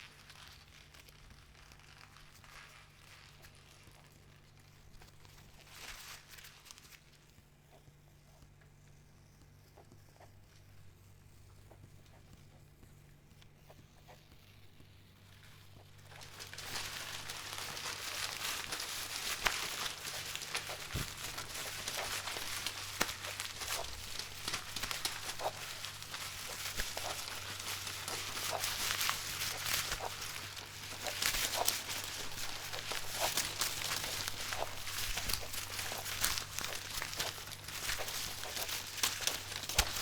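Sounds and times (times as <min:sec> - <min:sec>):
paper crumpling and rustling: 0:00.0 - 0:08.4, 0:14.1 - 0:40.0
low electrical hum: 0:00.0 - 0:40.0.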